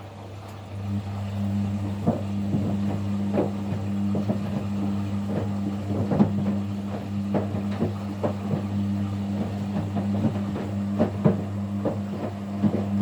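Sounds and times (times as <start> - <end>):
washing machine motor hum: 0.0 - 13.0
laundry knocking and sloshing in drum: 0.9 - 13.0.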